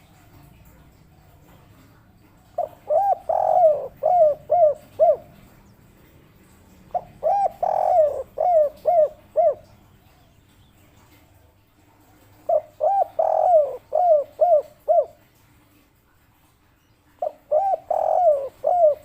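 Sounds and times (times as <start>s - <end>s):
dove cooing: 0.0s - 10.4s, 12.1s - 15.4s, 17.1s - 19.0s.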